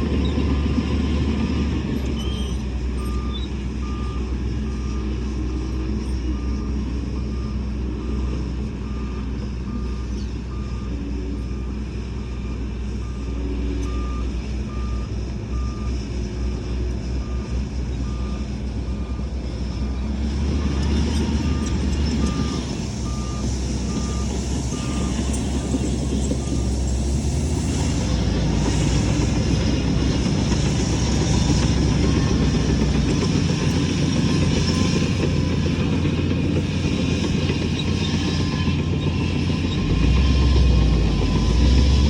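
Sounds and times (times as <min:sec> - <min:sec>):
diesel engine running: 0:00.0 - 0:42.0
reversing alarm beeping: 0:02.2 - 0:16.0, 0:20.5 - 0:27.8, 0:28.6 - 0:42.0.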